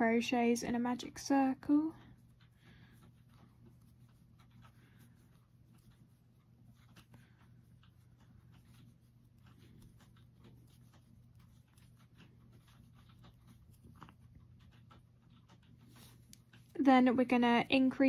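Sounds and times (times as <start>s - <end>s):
crochet hook ticks and rustles: 0.0s - 18.0s
low steady hum: 0.0s - 18.0s.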